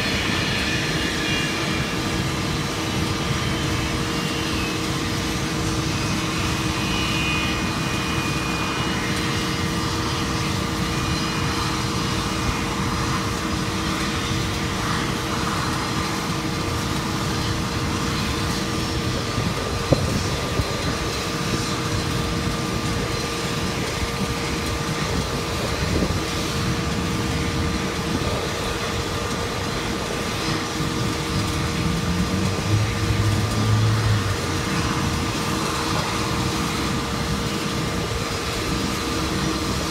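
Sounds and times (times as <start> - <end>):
jet engine taxiing: 0.0 - 39.9.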